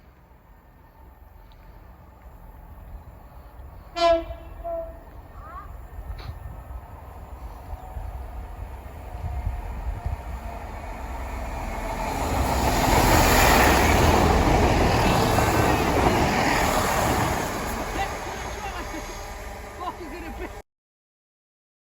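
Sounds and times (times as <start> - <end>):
train passing on rails: 0.0 - 20.6.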